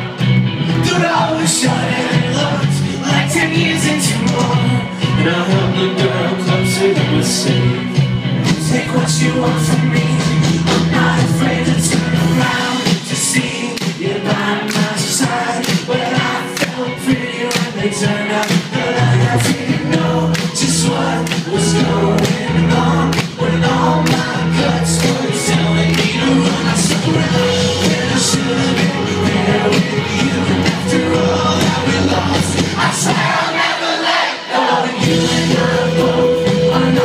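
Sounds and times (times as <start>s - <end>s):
electric guitars: 0.0s - 33.5s, 34.9s - 37.0s
live rock band playing: 0.0s - 33.6s, 34.9s - 37.0s
drums: 0.0s - 37.0s
man singing: 0.8s - 33.3s, 34.6s - 37.0s.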